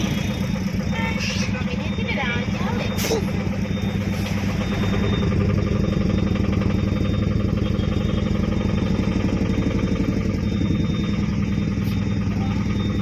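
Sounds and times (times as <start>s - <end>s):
engine low drone: 0.0s - 13.0s.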